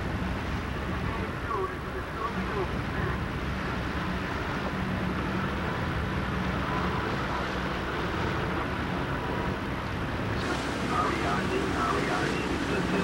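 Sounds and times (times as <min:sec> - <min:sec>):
motorboat engine droning: 0:00.0 - 0:13.0
wind and water rushing: 0:00.0 - 0:13.0.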